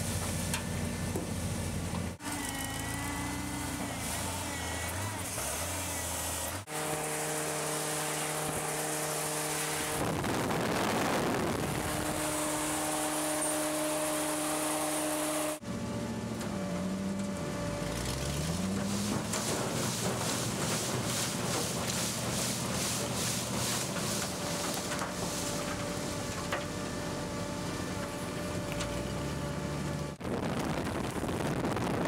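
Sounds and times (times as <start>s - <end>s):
harvester engine whine: 0.0s - 32.0s.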